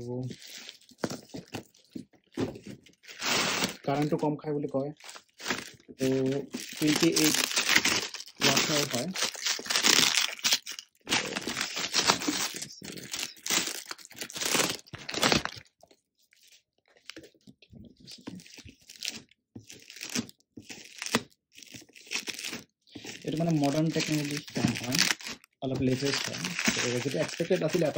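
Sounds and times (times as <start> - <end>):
packaging crinkling and tearing: 0.2 - 4.3, 5.0 - 17.4, 18.1 - 27.9.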